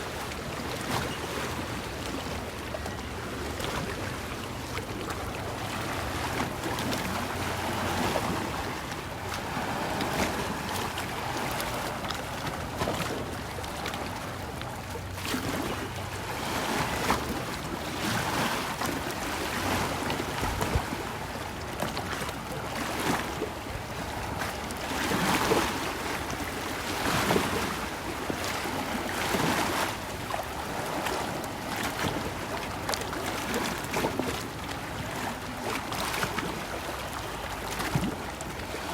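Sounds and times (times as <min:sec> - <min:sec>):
small waves lapping at shore: 0:00.0 - 0:38.9.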